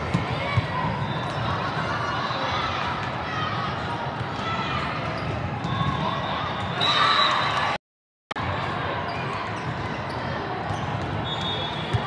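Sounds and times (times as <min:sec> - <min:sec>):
echoing hubbub of voices: 0:00.0 - 0:06.8, 0:08.4 - 0:12.0.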